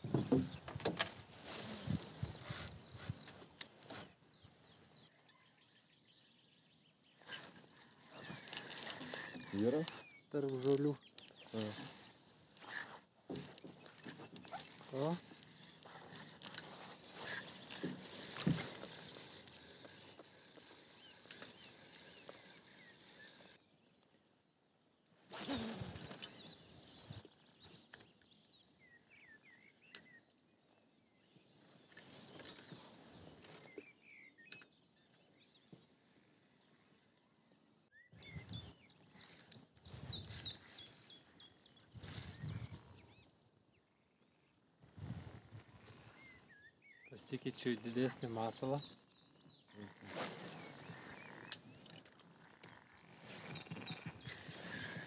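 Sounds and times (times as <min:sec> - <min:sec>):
songbirds chirping and singing: 0:00.0 - 0:24.3, 0:26.0 - 0:55.0.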